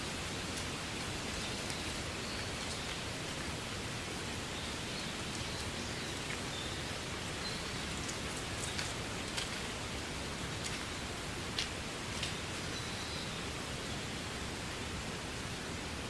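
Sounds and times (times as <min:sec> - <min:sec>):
wind rustling reeds: 0:00.0 - 0:16.0.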